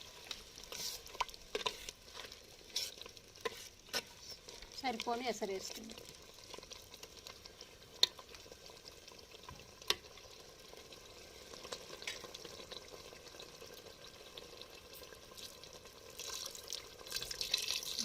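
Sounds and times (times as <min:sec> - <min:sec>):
curry sizzling in a pan: 0:00.0 - 0:18.0.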